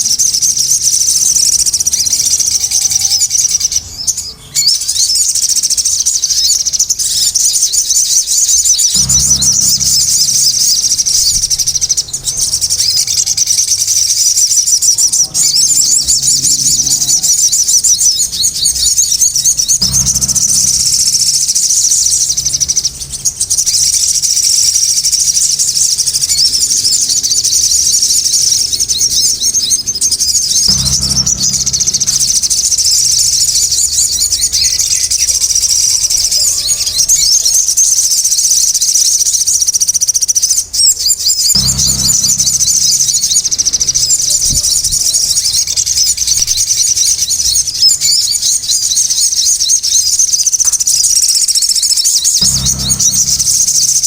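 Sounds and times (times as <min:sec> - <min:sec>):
songbird chirping rapidly: 0:00.0 - 0:54.0.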